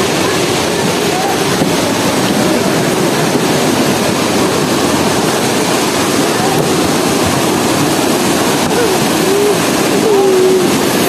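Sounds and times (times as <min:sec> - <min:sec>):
faint voices: 0:00.0 - 0:11.0
waterfall rushing: 0:00.0 - 0:11.0.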